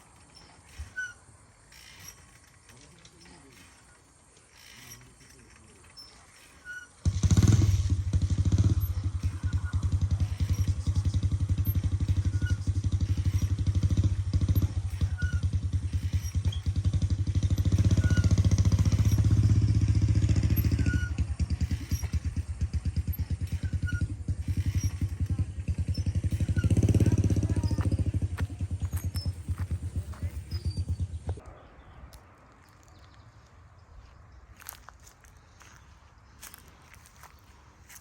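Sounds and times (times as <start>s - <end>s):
small engine revving: 0.0s - 31.4s.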